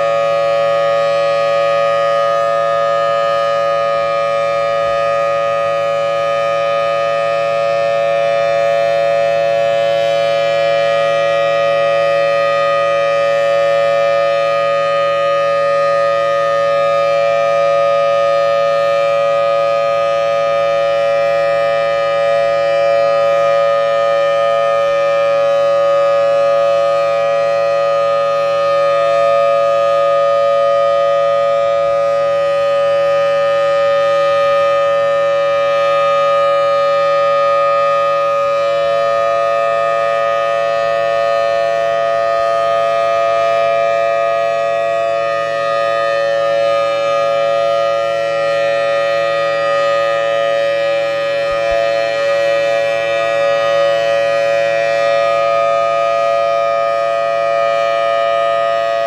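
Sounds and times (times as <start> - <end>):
siren steady tone: 0.0 - 59.0
wonky siren blower: 0.0 - 59.0.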